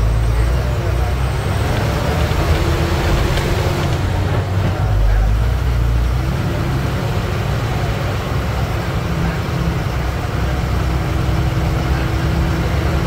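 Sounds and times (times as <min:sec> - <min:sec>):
bus diesel engine drone: 0:00.0 - 0:13.0
road and body noise: 0:00.0 - 0:13.0.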